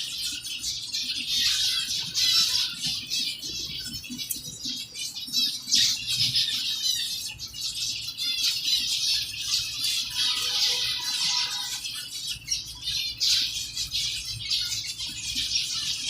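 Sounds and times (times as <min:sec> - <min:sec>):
finches chattering: 0:00.0 - 0:16.0.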